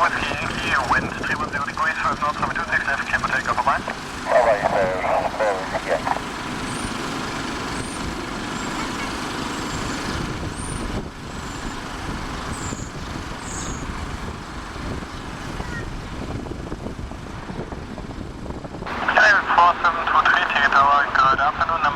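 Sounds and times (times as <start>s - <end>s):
jet engines running: 0.0s - 21.9s.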